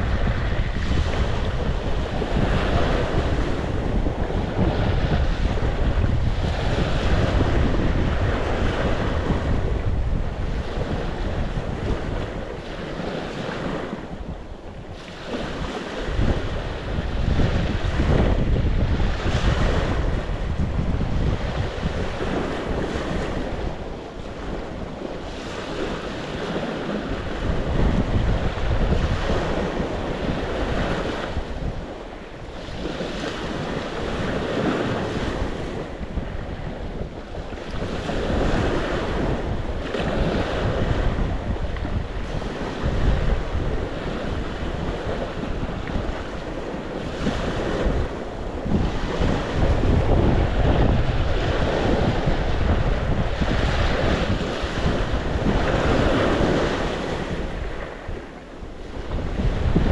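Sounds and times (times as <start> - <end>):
sea waves breaking on shore: 0.0 - 59.9
wind rumbling on microphone: 0.0 - 59.9.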